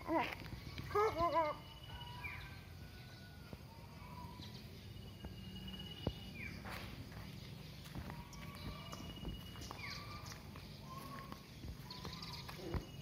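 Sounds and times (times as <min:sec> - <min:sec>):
distant birds calling: 0:00.0 - 0:13.0.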